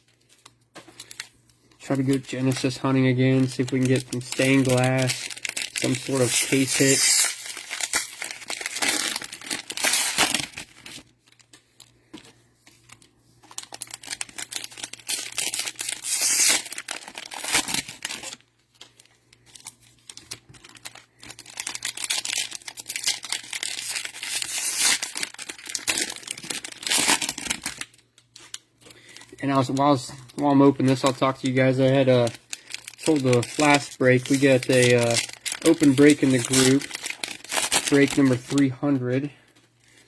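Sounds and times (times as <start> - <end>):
cellophane wrappers tearing and crinkling: 0.0 - 40.0.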